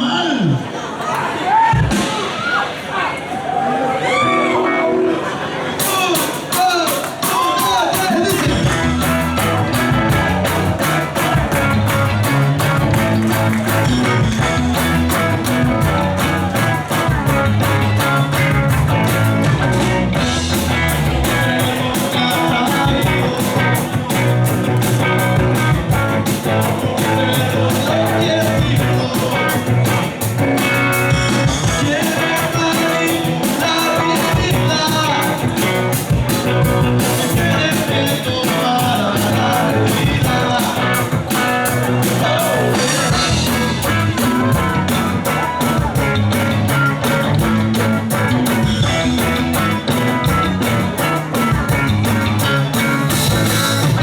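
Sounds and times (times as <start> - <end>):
electric guitar: 4.0 - 54.0
live rock band playing: 4.2 - 54.0
drum beat: 5.8 - 54.0.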